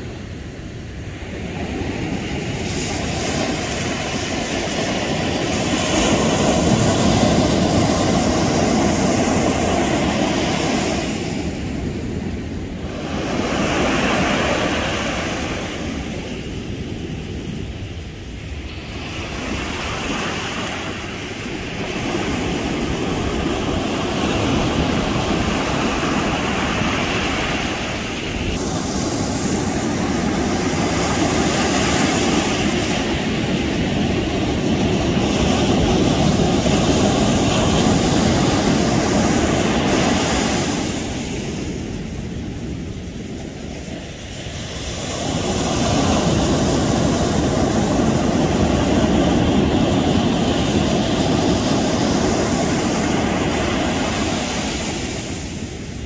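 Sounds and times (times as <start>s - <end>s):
surf washing up a beach: 0.0s - 56.0s.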